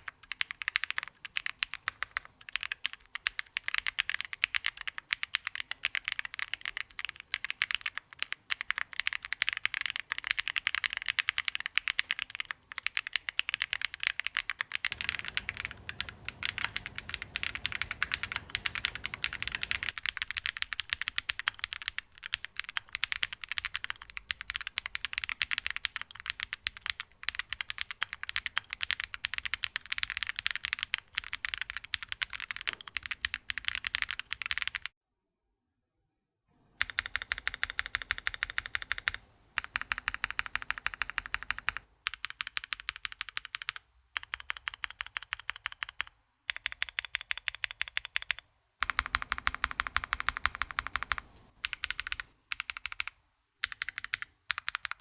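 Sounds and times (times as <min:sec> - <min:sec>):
mechanical keyboard typing: 0:00.0 - 0:34.9, 0:36.8 - 0:55.0.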